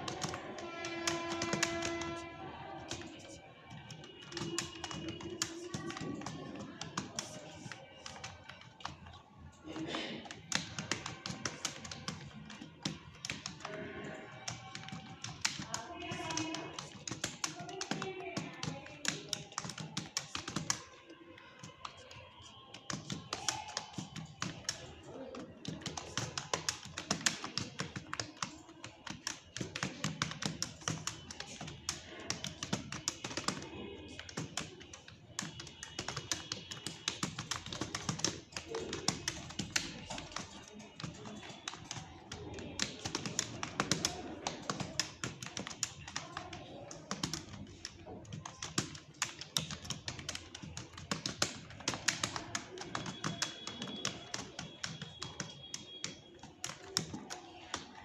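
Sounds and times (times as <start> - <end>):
fast typing on keyboard: 0.0 - 58.0.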